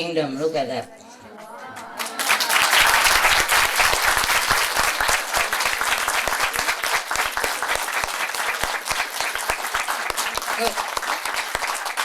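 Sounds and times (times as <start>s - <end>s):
audience applauding: 1.7s - 12.0s.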